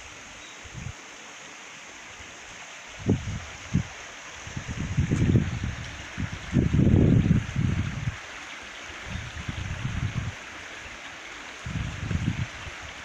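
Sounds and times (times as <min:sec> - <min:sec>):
stream babbling over stones: 0:00.0 - 0:13.0.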